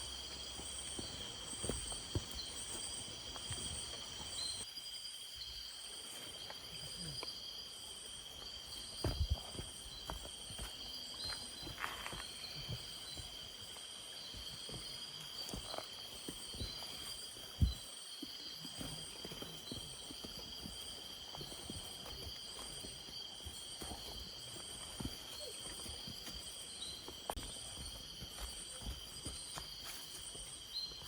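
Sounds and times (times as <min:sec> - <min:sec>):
footsteps crunching on trail: 0:00.0 - 0:04.6, 0:08.3 - 0:31.0
insects trilling: 0:00.0 - 0:31.0.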